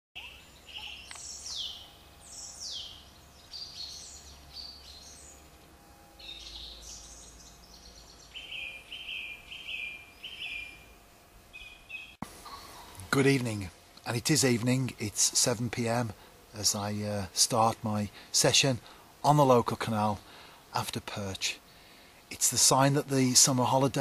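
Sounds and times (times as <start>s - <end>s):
birdsong: 0.2s - 24.0s
faint outdoor background noise: 0.2s - 24.0s.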